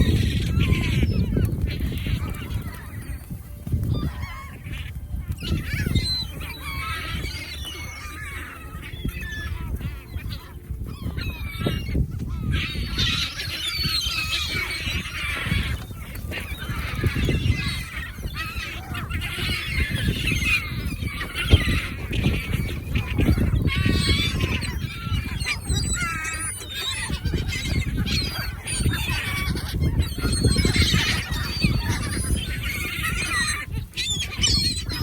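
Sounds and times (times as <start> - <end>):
flock of birds calling: 0.0 - 35.0.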